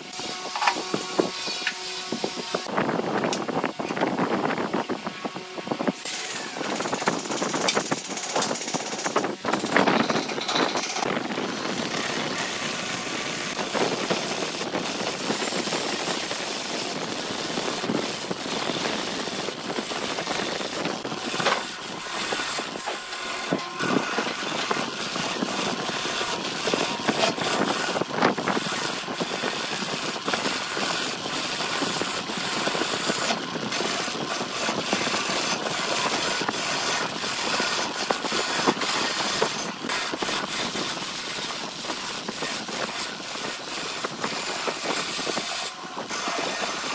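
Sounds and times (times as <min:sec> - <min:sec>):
lathe gouge cutting wood: 0:06.0 - 0:46.9.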